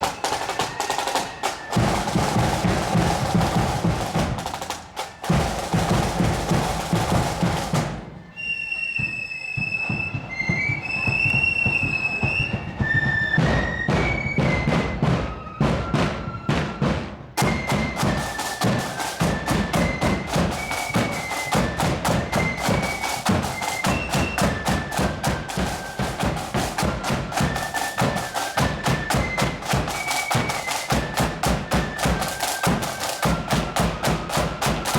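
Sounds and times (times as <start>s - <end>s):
heavy drumming: 0.0s - 8.3s, 9.8s - 34.9s
high flute tune: 0.0s - 34.9s
marching flute band: 0.0s - 34.9s.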